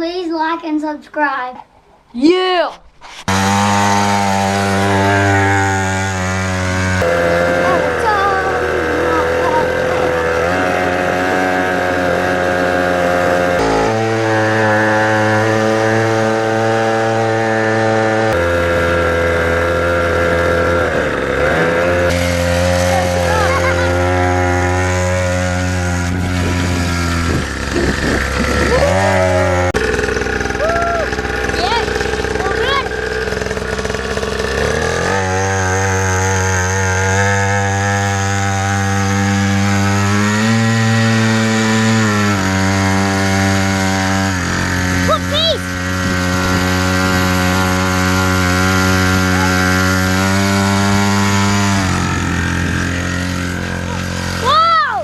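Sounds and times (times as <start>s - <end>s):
motorbike engine running: 3.3s - 55.0s.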